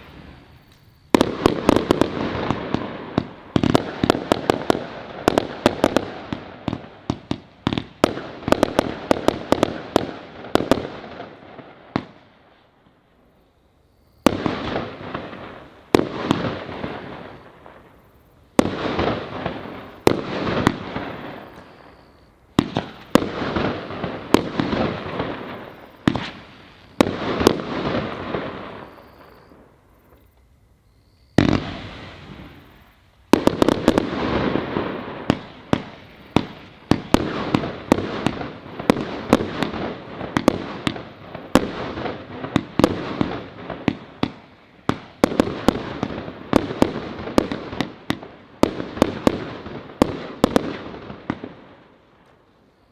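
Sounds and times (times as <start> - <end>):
patter of small firework pops: 0.0 - 11.3, 18.6 - 29.5, 31.2 - 52.6
fireworks shots and bursts: 0.0 - 12.8, 14.2 - 30.3, 31.2 - 52.9.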